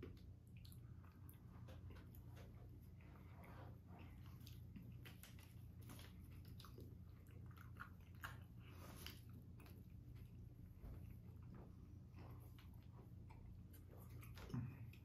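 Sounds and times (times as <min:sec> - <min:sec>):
low steady hum: 0:00.0 - 0:15.0
people chewing: 0:00.0 - 0:15.0.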